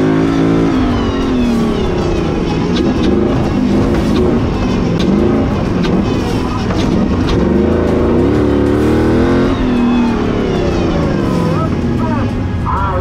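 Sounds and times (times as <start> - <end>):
engine revving hard: 0.0 - 12.5.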